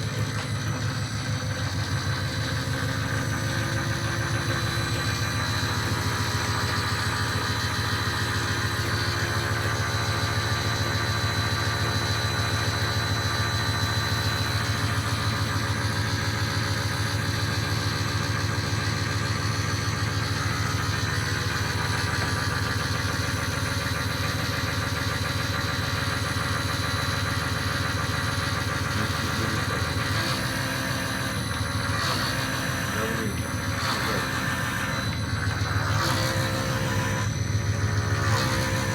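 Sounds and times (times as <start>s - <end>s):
hydraulic pump humming: 0.0s - 38.9s.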